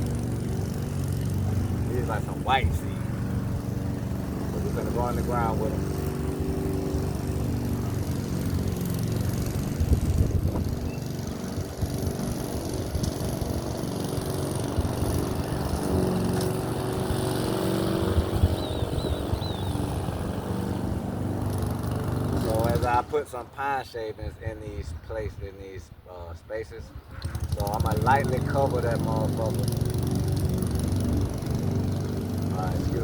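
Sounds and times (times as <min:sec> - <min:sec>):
lawn mower engine running: 0:00.0 - 0:23.6, 0:27.1 - 0:33.0.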